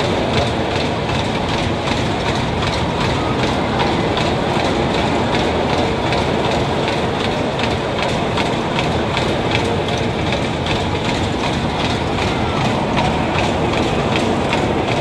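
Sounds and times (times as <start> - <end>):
carnival ride rumble: 0.0 - 15.0
wheels clacking over track joints: 0.0 - 15.0.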